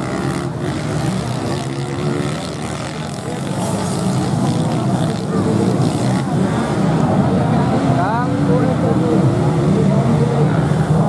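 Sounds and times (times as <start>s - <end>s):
motorcycle engines revving: 0.0s - 11.0s
people's voices: 0.0s - 11.0s.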